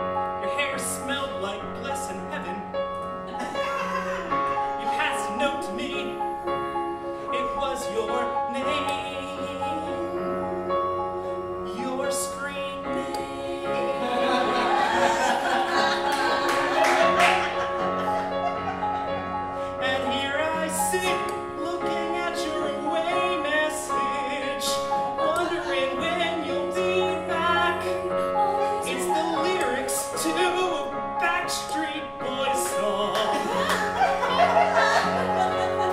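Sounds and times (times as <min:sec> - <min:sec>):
electric keyboard chords: 0:00.0 - 0:35.9
man singing: 0:00.4 - 0:02.6, 0:04.8 - 0:16.1, 0:19.7 - 0:35.9.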